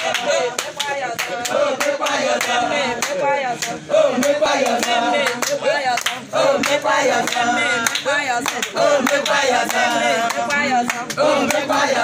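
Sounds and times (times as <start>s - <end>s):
call-and-response singing: 0.0s - 12.0s
rhythmic hand claps: 0.0s - 12.0s.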